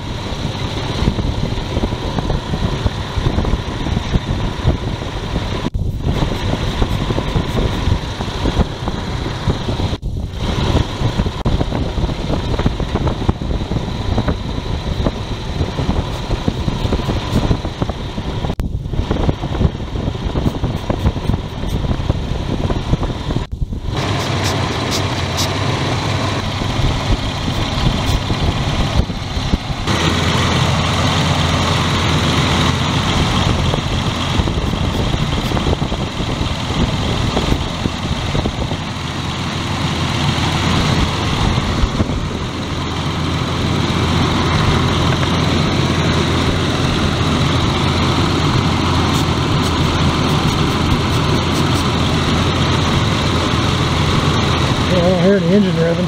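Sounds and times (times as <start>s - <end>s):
car engine idling roughly: 0.0s - 56.0s.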